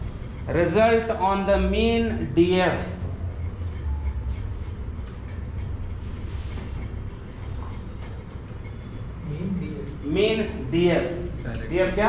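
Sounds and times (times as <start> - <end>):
classroom background rumble: 0.0 - 12.0.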